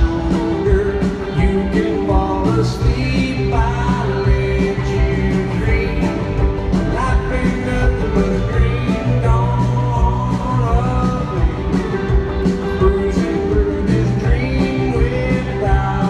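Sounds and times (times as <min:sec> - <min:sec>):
live country band: 0:00.0 - 0:16.0
man singing: 0:00.0 - 0:16.0.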